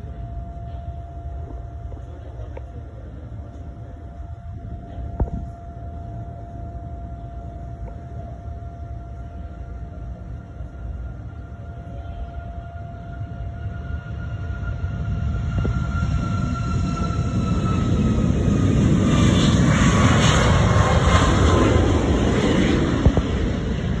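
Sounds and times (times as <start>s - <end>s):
jet engines at takeoff: 0.0s - 24.0s.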